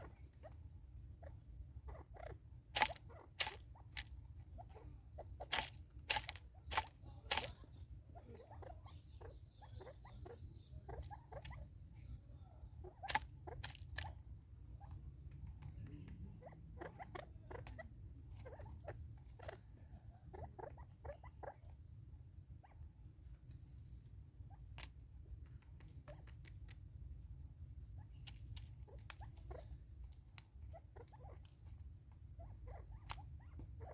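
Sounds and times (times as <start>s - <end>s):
bird pecking at food: 0.0s - 21.9s, 22.8s - 33.9s
low steady rumble: 0.0s - 33.9s.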